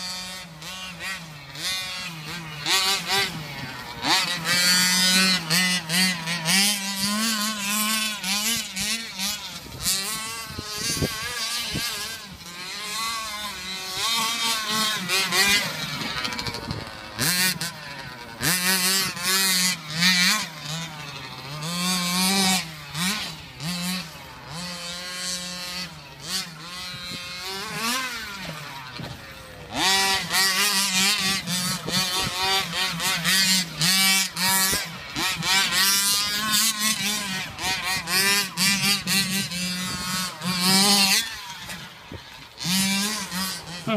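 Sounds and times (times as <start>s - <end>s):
rc truck engine revving: 0.0s - 43.9s.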